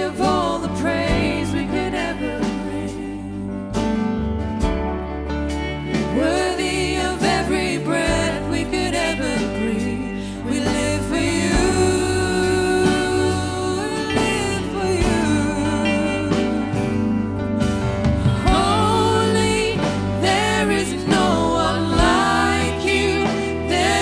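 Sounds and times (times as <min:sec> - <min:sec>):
person singing: 0:00.0 - 0:04.1, 0:05.9 - 0:24.0
band with bass and drums: 0:00.0 - 0:24.0.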